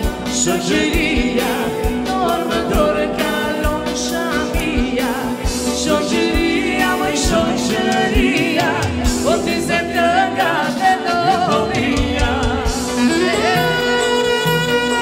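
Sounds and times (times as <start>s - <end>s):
live folk dance band: 0.0s - 15.0s.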